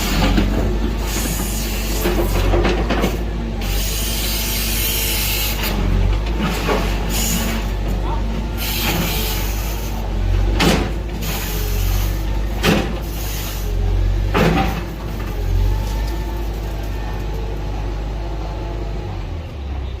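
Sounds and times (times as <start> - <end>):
diesel machinery rumbling: 0.0 - 20.0.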